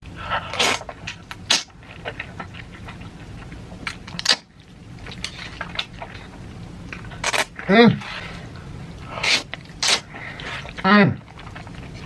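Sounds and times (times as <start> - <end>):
crunching and chewing: 0.3 - 12.0.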